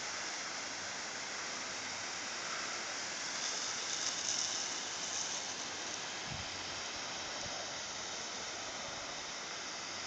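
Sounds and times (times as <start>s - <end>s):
garden hose spraying water: 0.0s - 10.0s.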